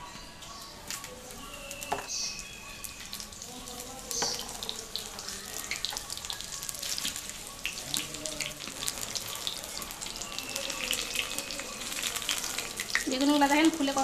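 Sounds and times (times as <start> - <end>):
deep-frying sizzle with pops: 0.4 - 14.0.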